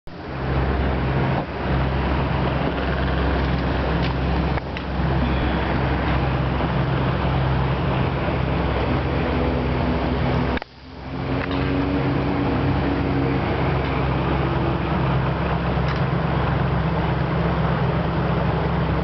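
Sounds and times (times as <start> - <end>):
hiss of water and air: 0.1 - 19.0
motorboat engine droning: 0.1 - 19.0.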